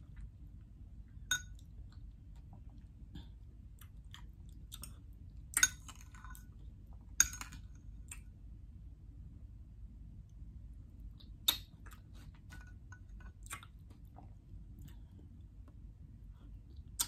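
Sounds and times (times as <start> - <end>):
person chewing soft fruit: 0.0 - 8.4, 11.0 - 17.0.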